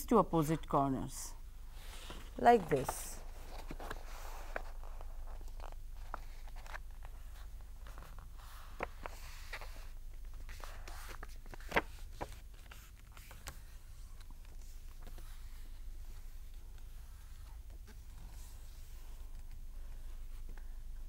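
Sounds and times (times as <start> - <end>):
low steady hum: 0.0 - 21.0
paper folding and rustling: 2.0 - 20.8.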